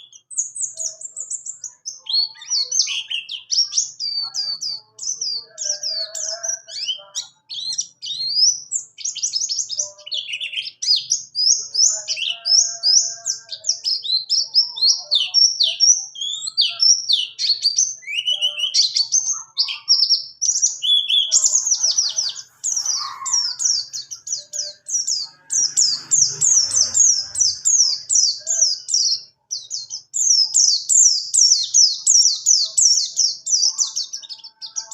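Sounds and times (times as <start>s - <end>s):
bird singing chirps and trills: 0.0s - 34.9s.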